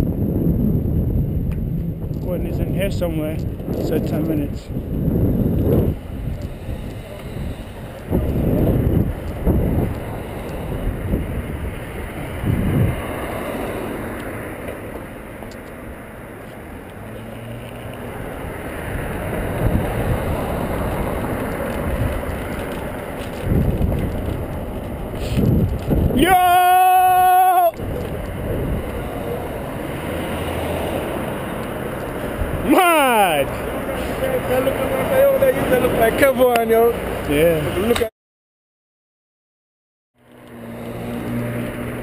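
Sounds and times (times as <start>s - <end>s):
wind buffeting microphone: 0.0s - 14.4s, 17.8s - 37.9s
road and traffic noise: 0.0s - 38.1s, 40.2s - 42.0s.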